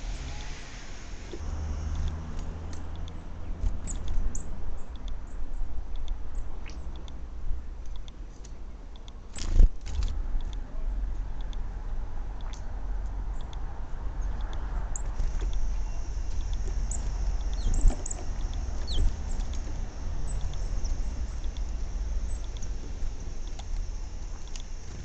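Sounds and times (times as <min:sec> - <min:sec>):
small birds chirping: 0:00.0 - 0:09.6, 0:12.3 - 0:25.0
steady low rumble: 0:00.0 - 0:25.0.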